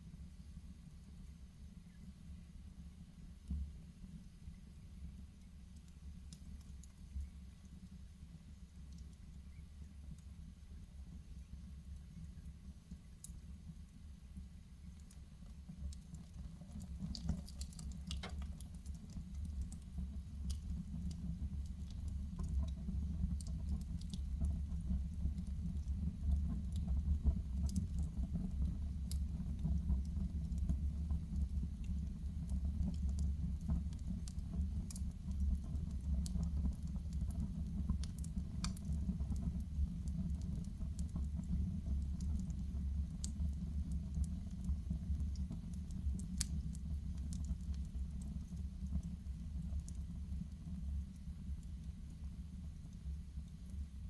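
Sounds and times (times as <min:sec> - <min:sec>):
low rumble of flames: 0:00.0 - 0:54.0
fire crackling and popping: 0:03.4 - 0:54.0.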